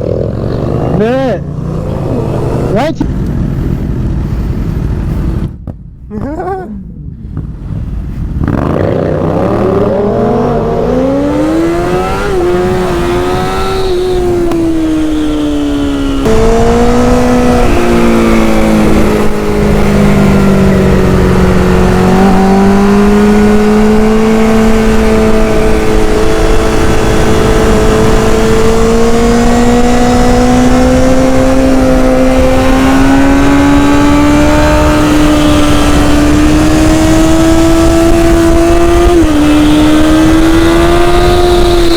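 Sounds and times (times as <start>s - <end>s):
motorcycle engine accelerating hard: 0.0s - 5.6s, 7.2s - 41.9s
wind rushing past: 6.9s - 41.9s.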